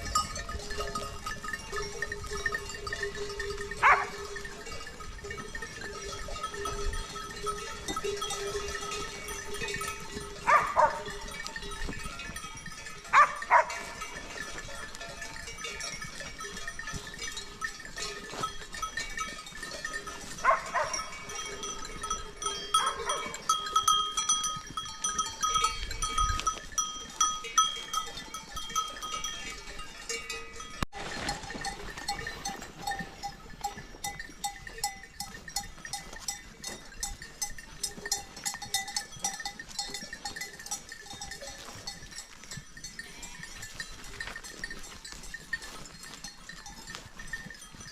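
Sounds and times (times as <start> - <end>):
livestock bells ringing: 0.0 - 47.9.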